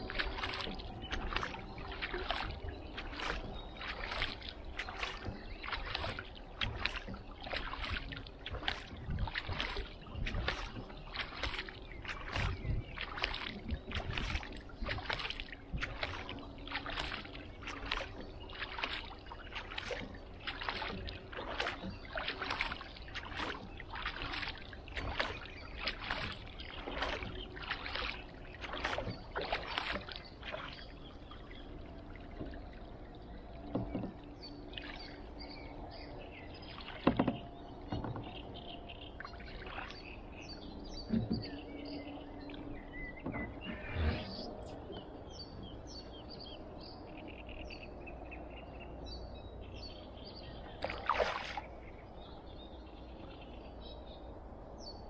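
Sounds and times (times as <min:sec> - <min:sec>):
water running off hull: 0:00.0 - 0:48.0, 0:49.8 - 0:53.6
kayak paddle splashing: 0:00.0 - 0:54.0.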